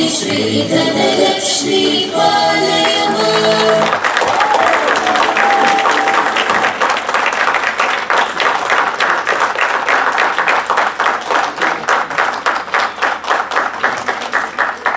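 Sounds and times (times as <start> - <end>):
audience applauding: 2.8 - 14.9.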